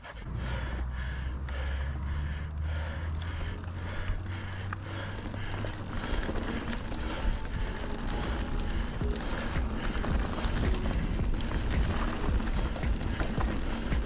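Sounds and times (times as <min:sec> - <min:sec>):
bike tyres on dirt trail: 0:00.0 - 0:14.0
bike clicks and knocks: 0:02.2 - 0:14.0.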